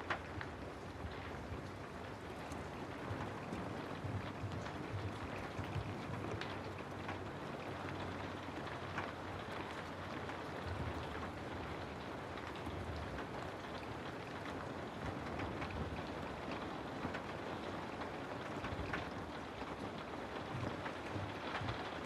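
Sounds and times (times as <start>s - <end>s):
rain falling on a house: 0.0s - 22.0s.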